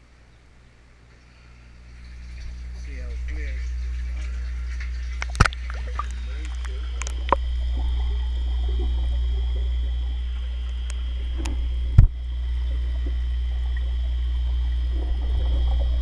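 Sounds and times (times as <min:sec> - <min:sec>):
steady low hum: 0:00.0 - 0:16.0
water sloshing in a tank: 0:00.8 - 0:16.0.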